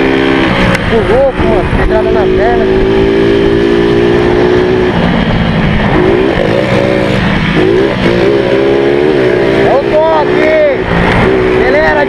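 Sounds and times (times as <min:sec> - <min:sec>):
motorcycle engine revving: 0:00.0 - 0:12.0
second motorcycle running: 0:00.0 - 0:12.0.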